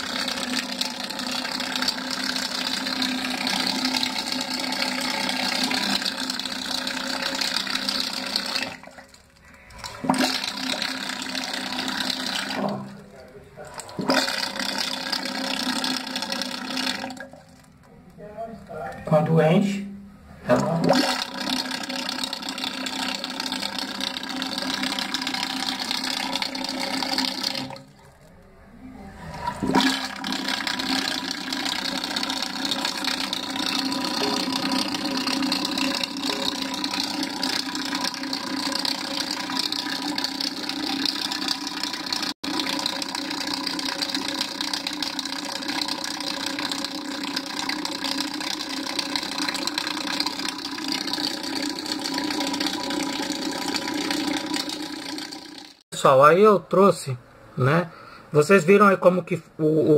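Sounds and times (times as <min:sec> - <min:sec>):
toilet cistern flushing and refilling: 0:00.0 - 0:18.0, 0:20.4 - 0:28.4, 0:29.0 - 0:55.8.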